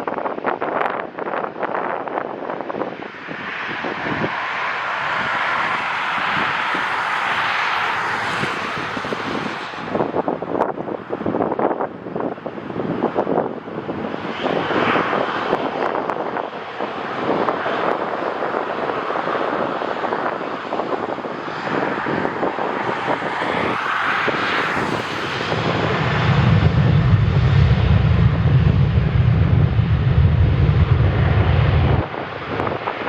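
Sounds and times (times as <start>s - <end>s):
wind buffeting microphone: 0.0s - 33.0s
jet engines roaring: 1.1s - 33.0s.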